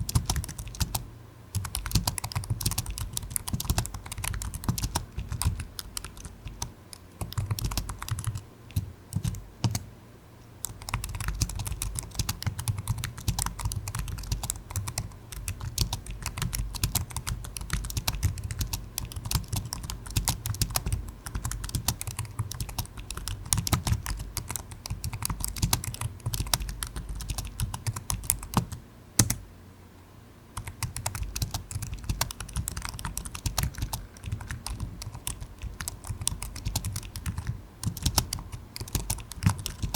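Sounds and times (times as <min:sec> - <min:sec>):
fast typing on keyboard: 0:00.0 - 0:09.8, 0:10.6 - 0:29.4, 0:30.6 - 0:39.9.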